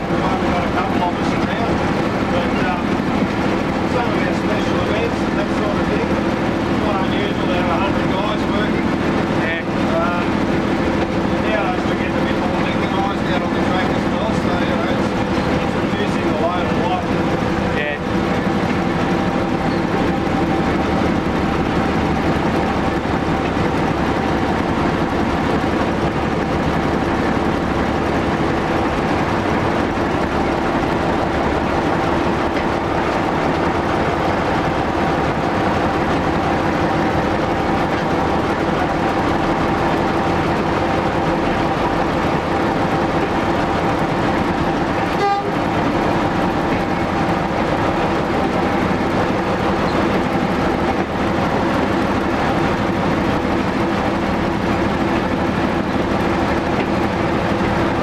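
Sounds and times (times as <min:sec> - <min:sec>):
diesel engine drone: 0:00.0 - 0:58.0
wheels rumbling on rails: 0:00.0 - 0:58.0.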